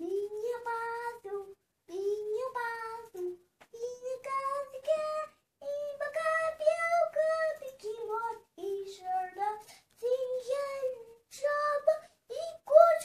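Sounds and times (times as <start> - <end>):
young boy singing: 0.0 - 13.0.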